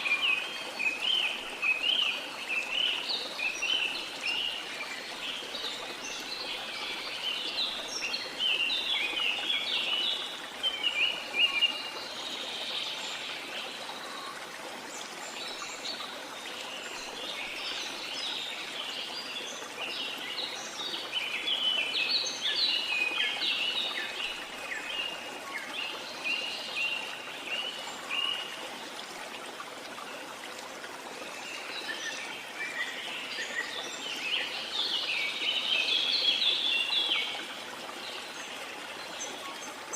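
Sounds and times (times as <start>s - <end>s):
rain or running water hiss: 0.0s - 39.9s.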